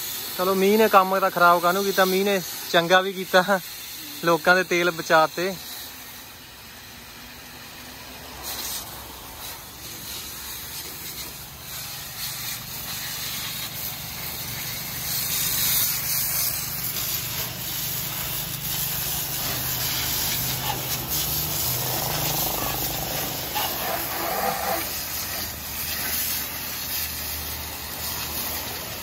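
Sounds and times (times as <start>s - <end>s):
high-pressure water jet spattering: 0.0s - 29.0s.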